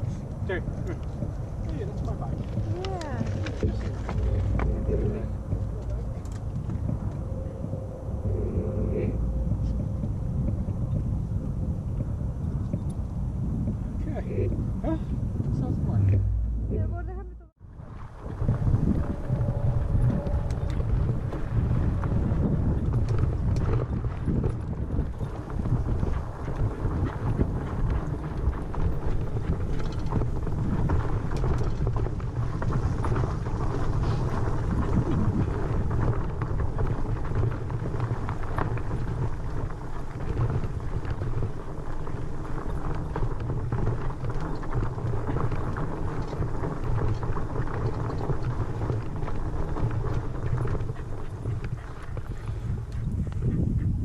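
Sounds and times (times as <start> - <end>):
bike rattling on bumpy ground: 0.0 - 54.0
wind on microphone: 0.0 - 54.0.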